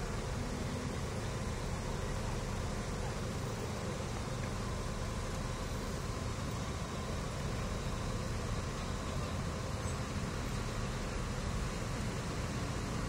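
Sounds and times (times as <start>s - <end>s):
diesel engines idling: 0.0s - 13.0s.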